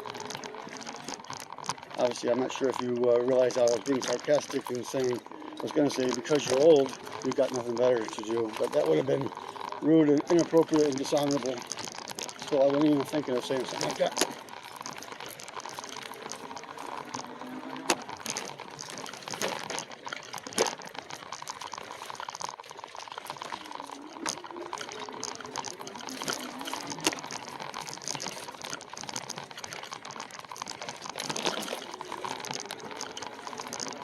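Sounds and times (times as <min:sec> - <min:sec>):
bike tyres rolling on dirt: 0:00.0 - 0:34.0.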